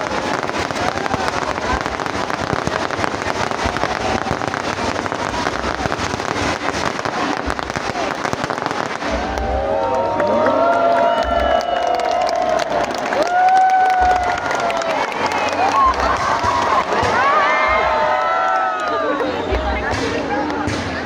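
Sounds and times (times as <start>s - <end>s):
fireworks crackling: 0.0s - 21.0s
people shouting and cheering: 0.0s - 21.0s.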